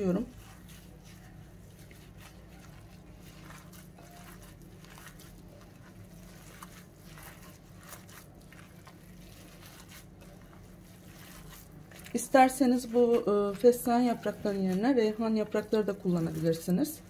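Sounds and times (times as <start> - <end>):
hands squelching wet mixture: 0.0 - 17.0
low steady hum: 0.0 - 17.0.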